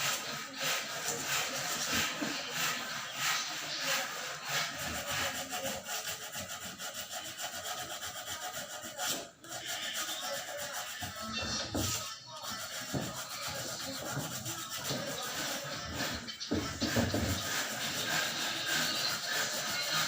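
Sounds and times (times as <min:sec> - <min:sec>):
sandpaper rubbing on hard surface: 0:00.0 - 0:20.0.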